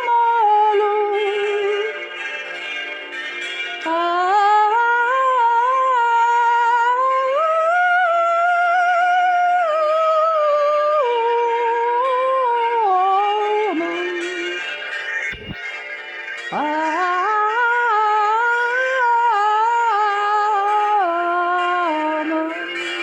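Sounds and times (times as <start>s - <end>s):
woman singing wordless melody: 0.0s - 2.0s, 3.8s - 14.7s, 16.5s - 23.0s.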